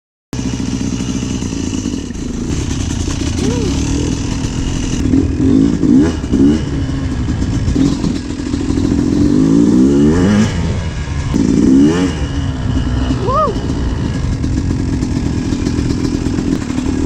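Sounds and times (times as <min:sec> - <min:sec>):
dirt bike engine revving: 0:00.4 - 0:17.0.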